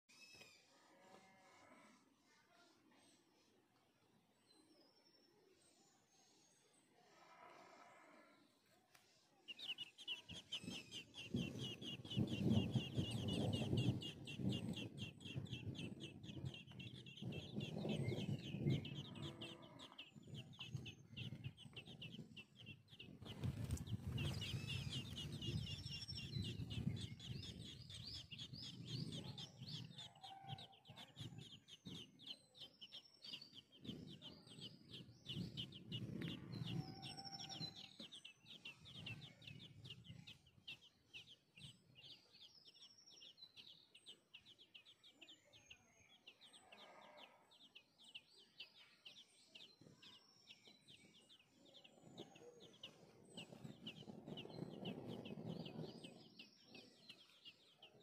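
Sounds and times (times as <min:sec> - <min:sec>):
nestling birds begging chirps: 0:08.6 - 0:58.0.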